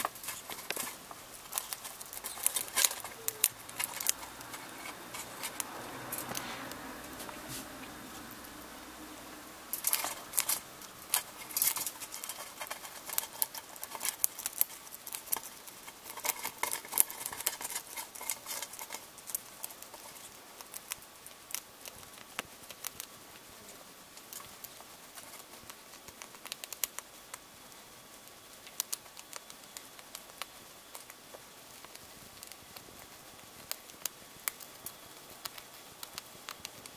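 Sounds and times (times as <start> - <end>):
hamster crunching insect shell: 0.0 - 8.6, 9.7 - 36.9.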